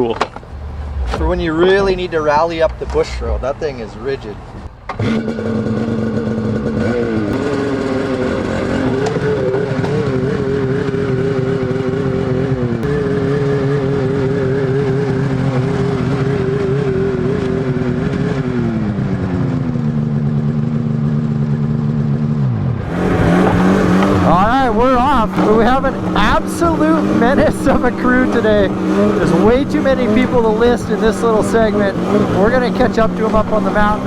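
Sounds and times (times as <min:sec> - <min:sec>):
vehicle engine running under load: 0:00.0 - 0:34.0.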